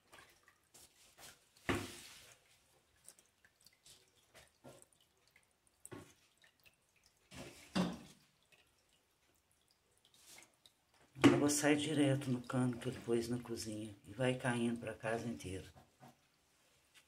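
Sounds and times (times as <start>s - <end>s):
water dripping into a bucket: 0.0s - 17.0s.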